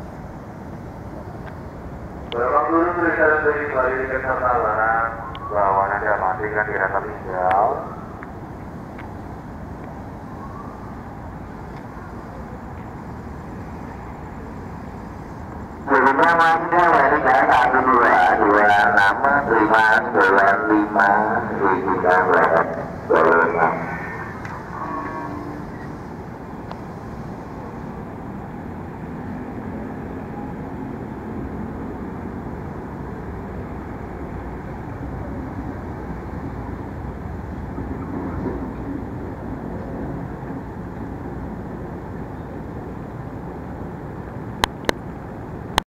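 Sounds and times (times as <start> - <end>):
faint rising whine: 0.0 - 44.3
electric train rumbling: 0.0 - 45.8.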